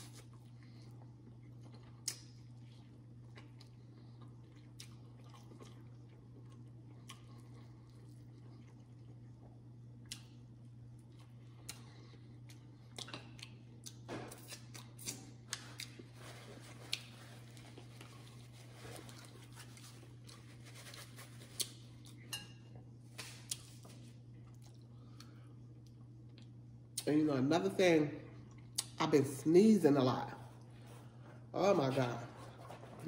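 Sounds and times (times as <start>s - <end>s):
person chewing food: 0.0s - 27.0s, 28.4s - 29.0s
low steady hum: 0.0s - 33.0s.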